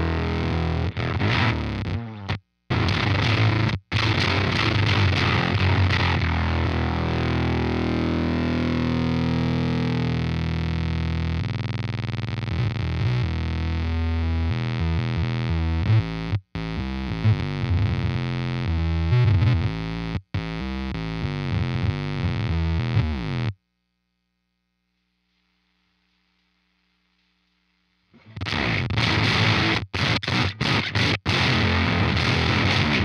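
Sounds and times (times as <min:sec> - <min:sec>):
buzzy synth electric guitar: 0:00.0 - 0:23.5, 0:28.2 - 0:33.0.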